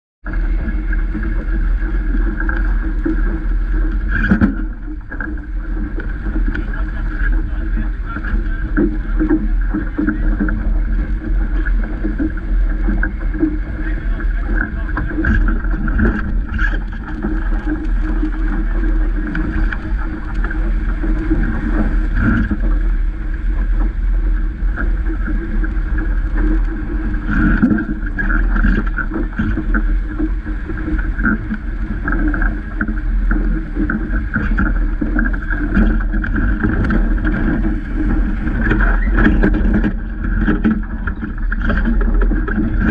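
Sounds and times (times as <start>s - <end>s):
water rushing past boat hull: 0.2s - 42.9s
wind buffeting microphone: 0.2s - 42.9s.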